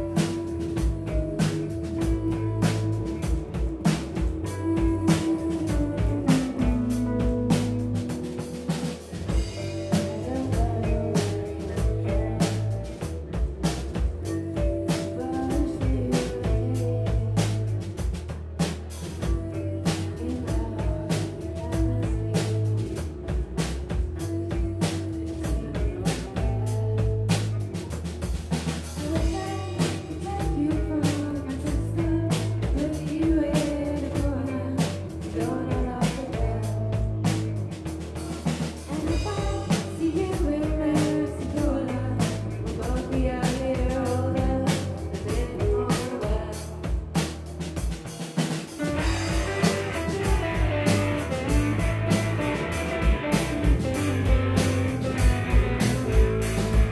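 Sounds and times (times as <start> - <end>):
woman singing: 0.0 - 28.1, 28.8 - 47.4, 48.7 - 56.9
drum kit beat: 0.0 - 56.9
electric guitars: 0.0 - 56.9.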